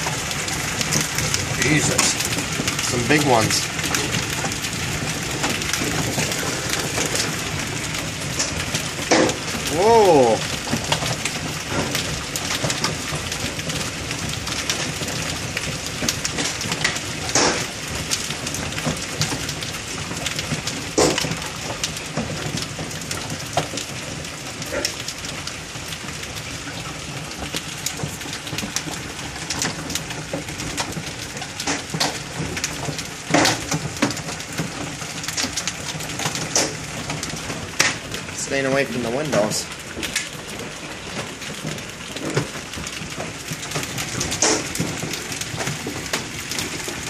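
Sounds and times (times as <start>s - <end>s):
hail and rain falling: 0.0s - 47.0s
hailstones knocking: 0.0s - 47.0s.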